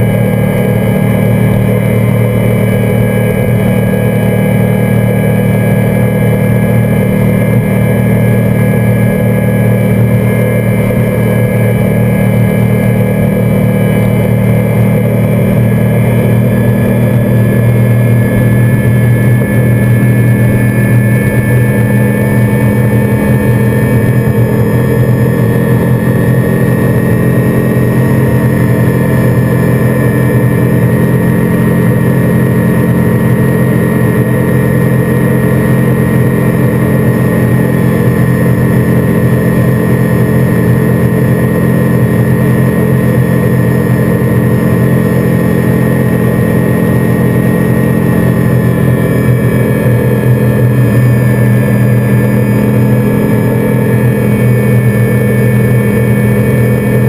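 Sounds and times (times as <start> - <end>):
outboard engine running hard: 0.0 - 57.0.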